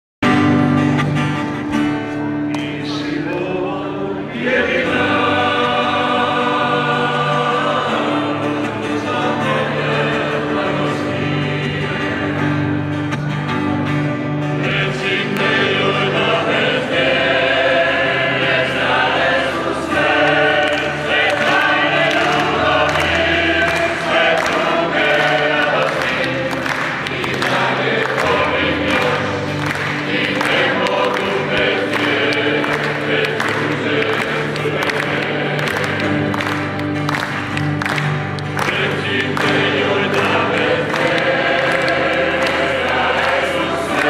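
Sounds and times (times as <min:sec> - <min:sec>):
choir singing in harmony: 0:02.6 - 0:13.1, 0:14.2 - 0:44.0.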